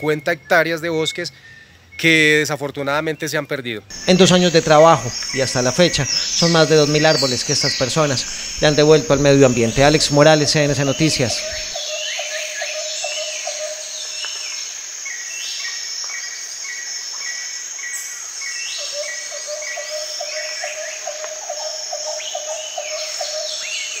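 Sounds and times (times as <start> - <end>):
birds chirping and calling: 3.9 - 17.4, 18.0 - 24.0
insects trilling: 3.9 - 24.0.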